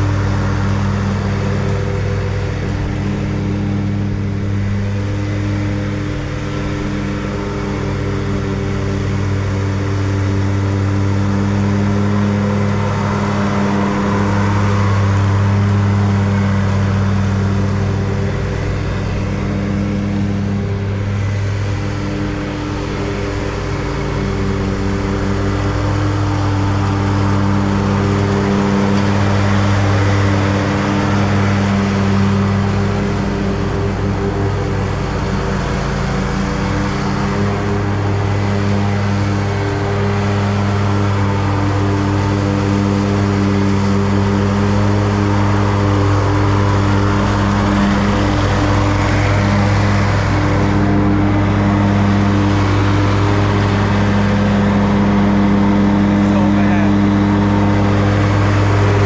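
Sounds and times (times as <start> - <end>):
lawn mower engine running: 0.0 - 59.0
whir of spinning mower blades: 0.0 - 59.0.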